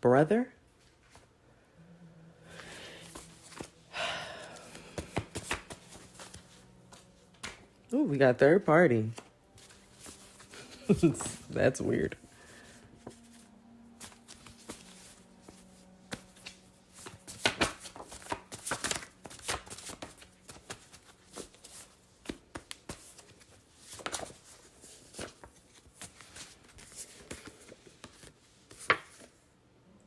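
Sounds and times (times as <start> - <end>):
cards being shuffled: 2.6 - 7.8, 9.0 - 29.4.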